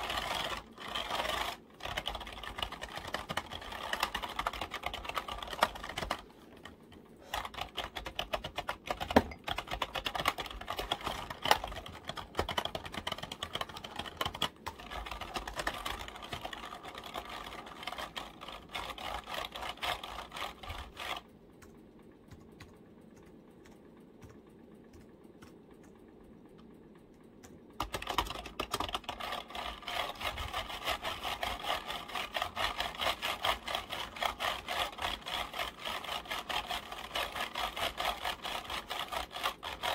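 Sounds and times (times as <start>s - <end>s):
computer keyboard tapping: 0.0s - 39.9s.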